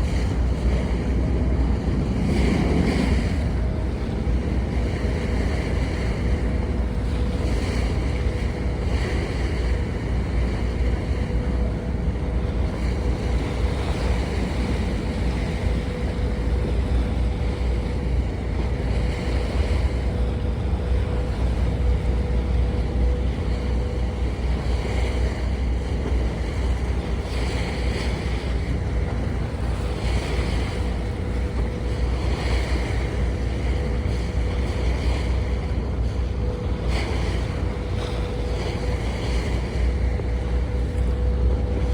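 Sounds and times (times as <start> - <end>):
boat engine rumbling: 0.0 - 41.9
water washing past hull: 0.0 - 41.9
wind on microphone: 0.0 - 41.9.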